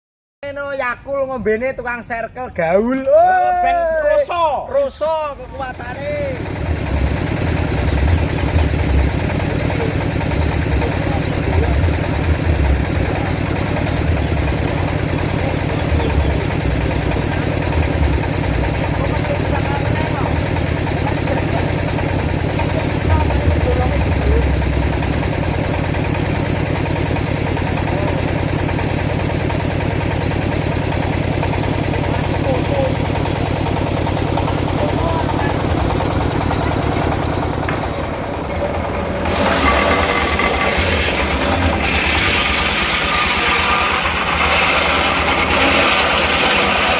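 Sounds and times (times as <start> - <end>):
sawmill engine throbbing: 3.4 - 46.9.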